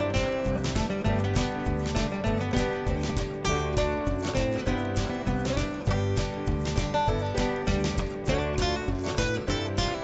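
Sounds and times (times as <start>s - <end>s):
upbeat acoustic guitar strumming: 0.0s - 10.0s.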